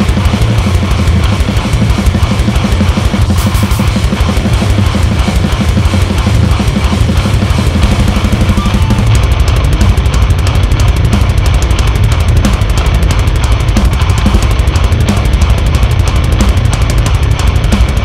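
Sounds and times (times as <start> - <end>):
distorted heavy metal music: 0.0 - 18.0
fast low hits: 0.0 - 18.0.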